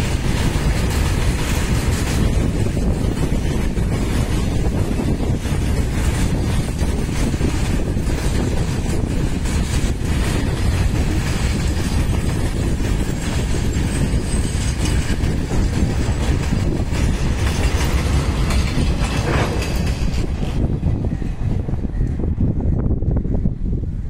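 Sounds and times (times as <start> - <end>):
train wheels clattering on rails: 0.0 - 22.5.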